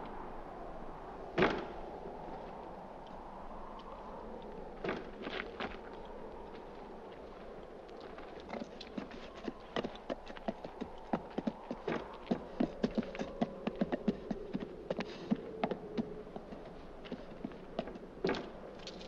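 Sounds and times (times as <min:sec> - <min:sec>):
hooves clopping on dirt: 0:02.3 - 0:19.0.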